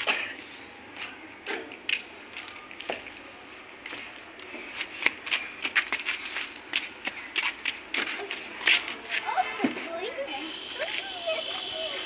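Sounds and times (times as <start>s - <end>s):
footsteps on concrete: 1.9s - 11.7s.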